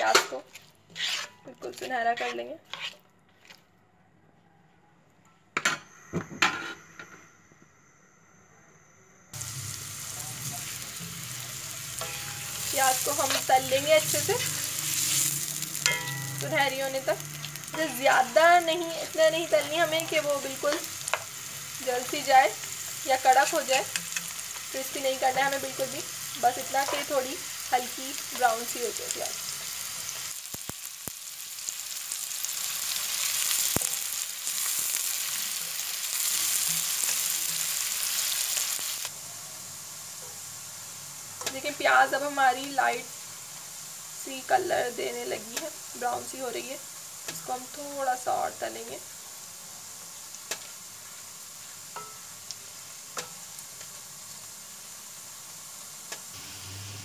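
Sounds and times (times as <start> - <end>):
onions sizzling in oil: 0.0 - 2.9, 9.3 - 57.0.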